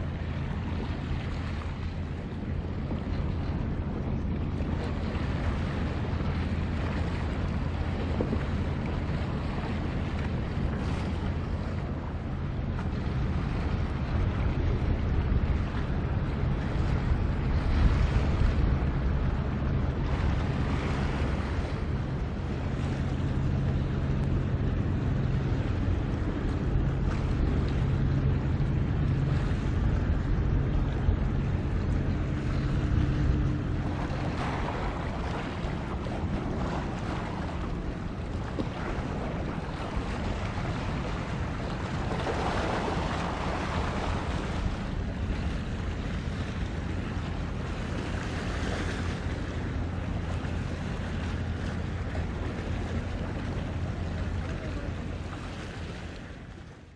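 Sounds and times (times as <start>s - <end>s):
ship diesel engine humming: 0.0s - 56.9s
wind and water noise: 0.0s - 56.9s.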